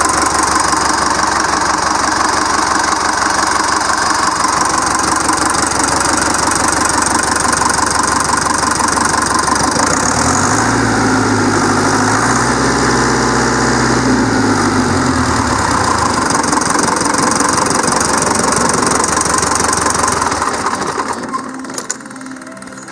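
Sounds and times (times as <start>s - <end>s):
diesel engine clattering: 0.0s - 22.9s.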